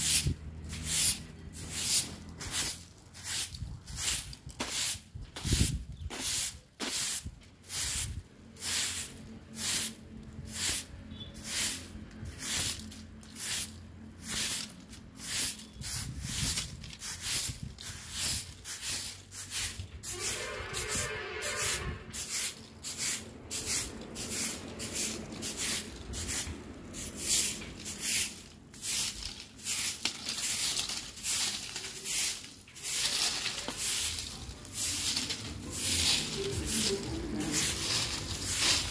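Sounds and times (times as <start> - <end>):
broom sweeping concrete: 0.0 - 38.9.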